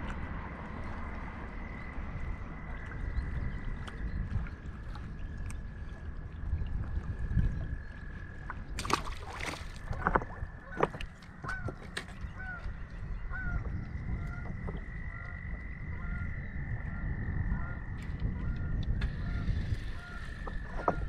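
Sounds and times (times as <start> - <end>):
water lapping: 0.0 - 15.7, 18.4 - 21.0
wind: 0.0 - 21.0.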